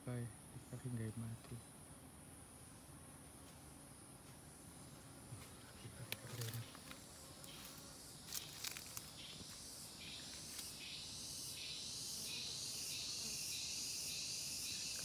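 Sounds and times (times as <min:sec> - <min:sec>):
pulsing insect chorus: 0:00.0 - 0:15.0.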